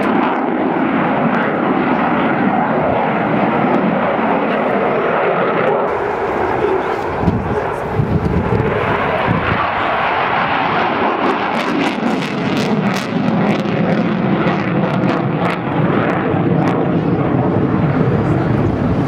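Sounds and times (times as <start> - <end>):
jet engine roar: 0.0 - 19.0
jet noise crackles: 0.0 - 19.0.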